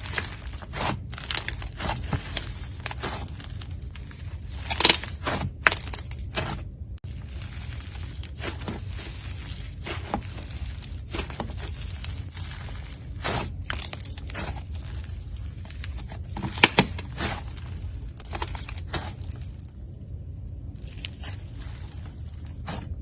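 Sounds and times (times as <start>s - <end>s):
slime crackling and popping: 0.0s - 19.7s.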